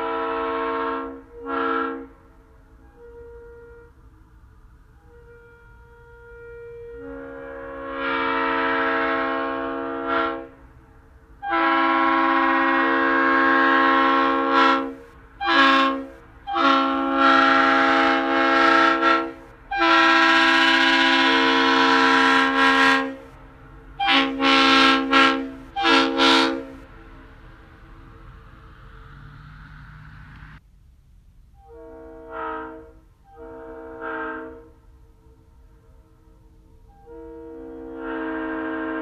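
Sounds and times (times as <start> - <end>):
air horn blasts: 0.0 - 4.2, 4.9 - 10.6, 11.4 - 23.4, 24.0 - 26.9, 31.6 - 39.0.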